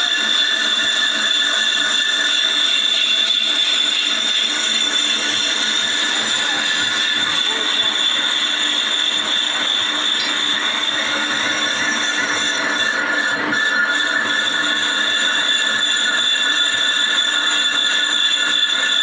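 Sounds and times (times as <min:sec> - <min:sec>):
lathe cutting metal with ringing whine: 0:00.0 - 0:19.0.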